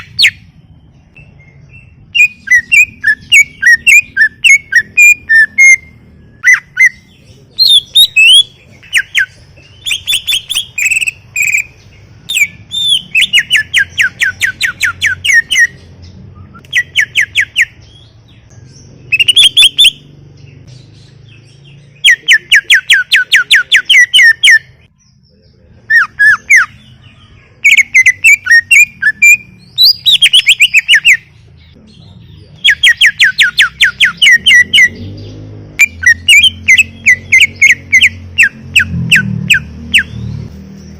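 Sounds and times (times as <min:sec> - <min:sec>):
sharp high bird calls: 0:00.0 - 0:25.0, 0:25.8 - 0:31.4, 0:32.6 - 0:40.9
bird singing trilled notes: 0:00.0 - 0:40.9.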